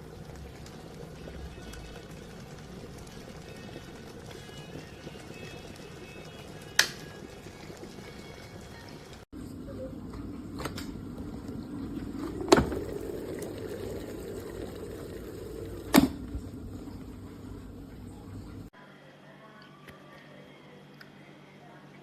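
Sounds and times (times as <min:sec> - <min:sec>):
electric kettle heating water: 0:00.0 - 0:18.7.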